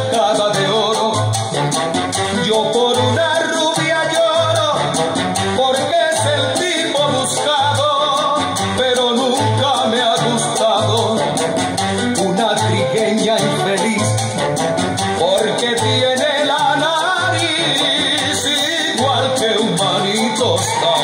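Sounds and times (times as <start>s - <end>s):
latin dance music over speakers: 0.0s - 21.0s
pulsing bass line: 0.0s - 21.0s.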